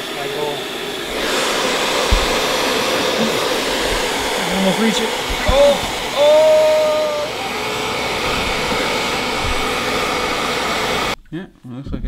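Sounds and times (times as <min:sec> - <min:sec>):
hair dryer blowing: 0:00.0 - 0:11.2.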